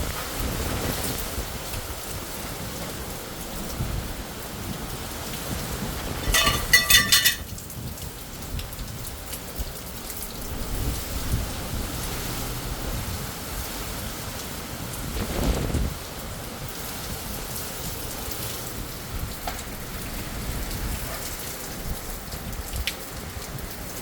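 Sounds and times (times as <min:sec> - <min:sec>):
low rumble of thunder: 0:00.0 - 0:23.5
rain on hard surfaces: 0:00.0 - 0:24.0.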